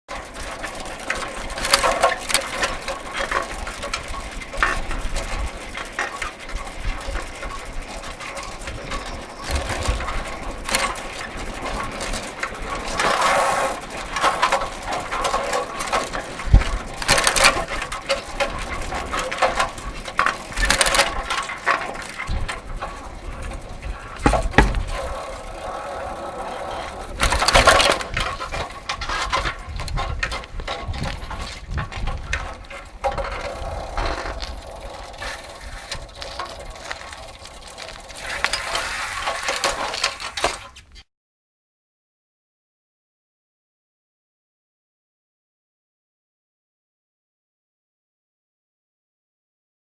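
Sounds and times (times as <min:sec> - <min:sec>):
bicycle chain clicking and rattling: 0:00.1 - 0:40.7.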